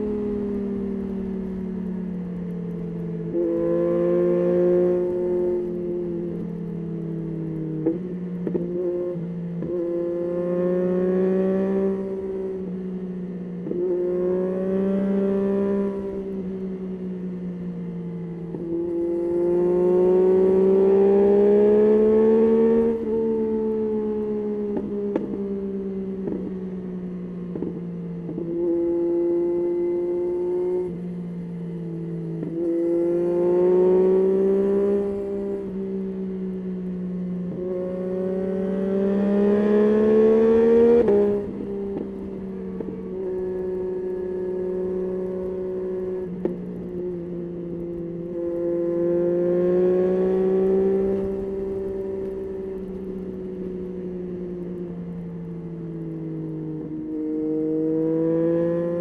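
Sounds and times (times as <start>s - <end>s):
motorcycle engine revving: 0.0s - 26.6s, 27.4s - 59.0s.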